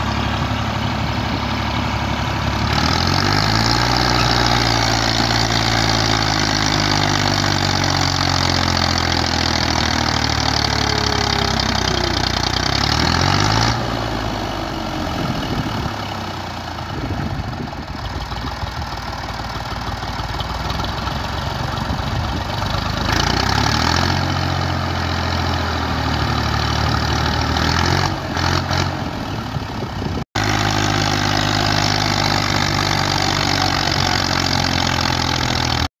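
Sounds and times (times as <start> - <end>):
tractor diesel engine under heavy load: 0.0 - 35.9.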